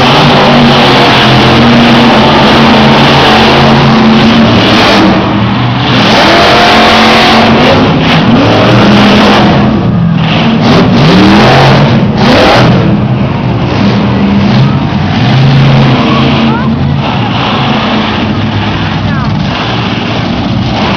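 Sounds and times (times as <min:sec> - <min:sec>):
monster truck engines revving: 0:00.0 - 0:20.9.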